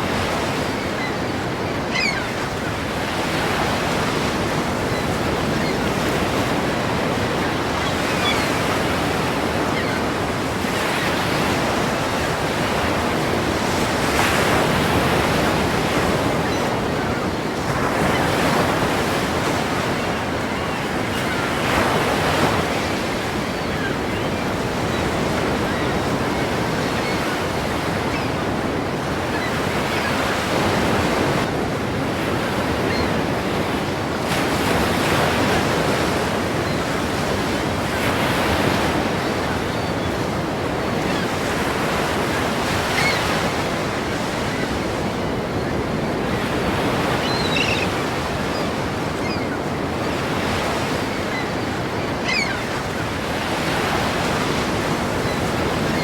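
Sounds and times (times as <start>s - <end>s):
ocean waves crashing: 0.0s - 56.0s.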